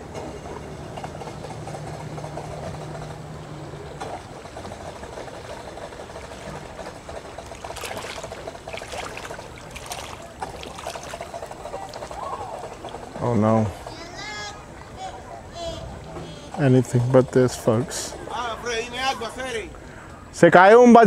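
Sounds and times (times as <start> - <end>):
boat engine running: 0.0 - 19.9
water noise: 0.0 - 20.3.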